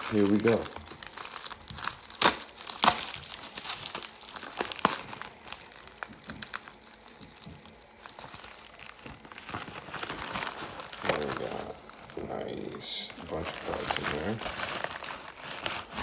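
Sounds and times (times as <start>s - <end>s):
packaging crinkling and tearing: 0.0s - 16.0s.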